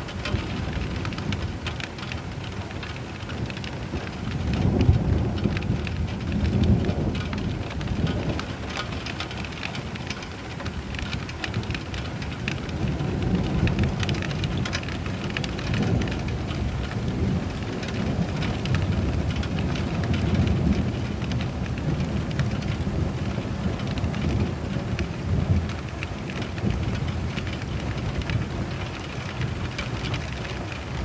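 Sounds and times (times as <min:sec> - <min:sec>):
low thunder rumbling: 0:00.0 - 0:31.0
steady rain: 0:00.0 - 0:31.0.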